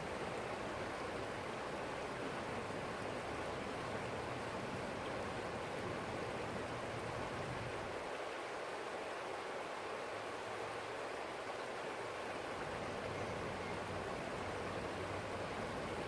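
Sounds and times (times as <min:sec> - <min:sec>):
stream flowing: 0:00.0 - 0:16.0.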